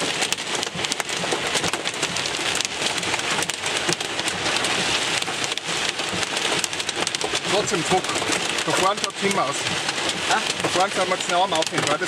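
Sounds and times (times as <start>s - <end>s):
rain and hail on car roof: 0.0s - 12.0s.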